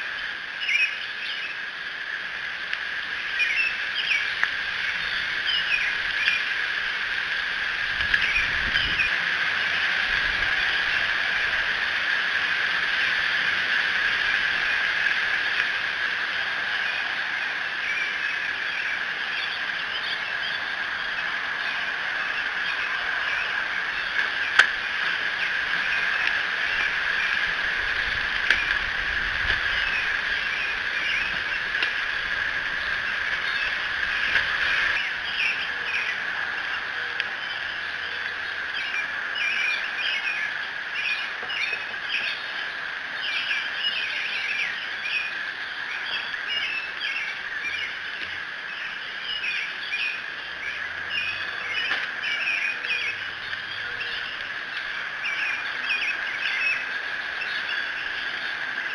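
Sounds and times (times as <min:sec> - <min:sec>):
high-pitched hum: 0:00.0 - 0:58.9
songbirds chirping and singing: 0:00.0 - 0:58.9.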